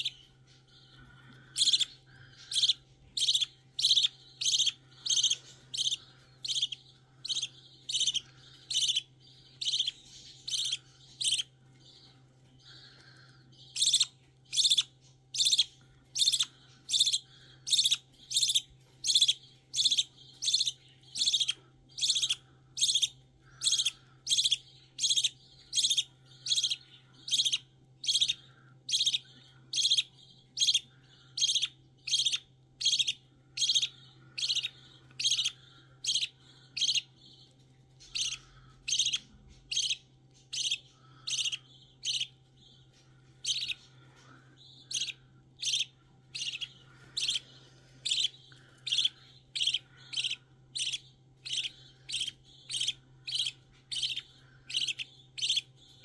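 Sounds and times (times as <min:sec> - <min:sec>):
bird chick begging chirps: 0:00.0 - 0:56.0.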